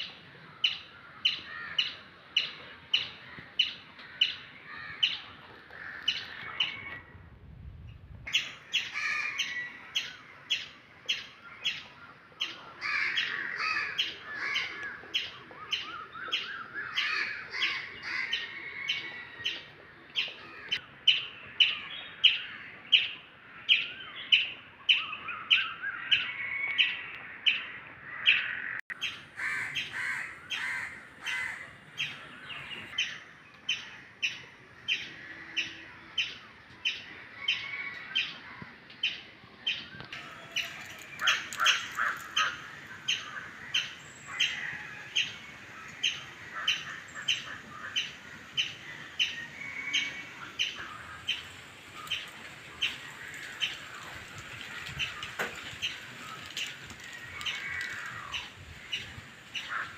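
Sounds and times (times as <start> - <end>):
birds warbling: 0.0 - 7.1, 8.3 - 59.9.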